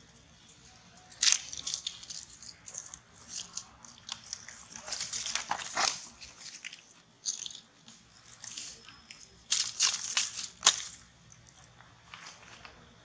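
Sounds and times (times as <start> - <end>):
monkeys chewing leaves: 0.6 - 11.7.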